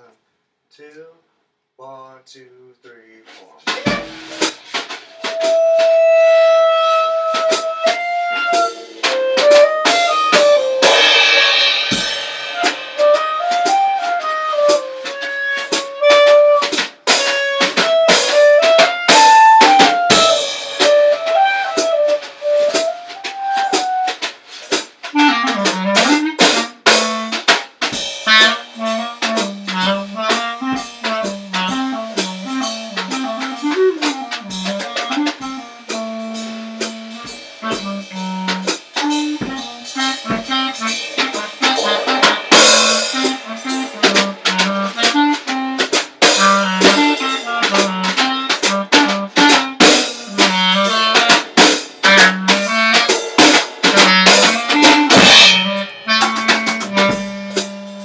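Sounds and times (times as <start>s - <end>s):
drum kit playing: 3.2s - 58.0s
clarinet improvising: 3.4s - 58.0s.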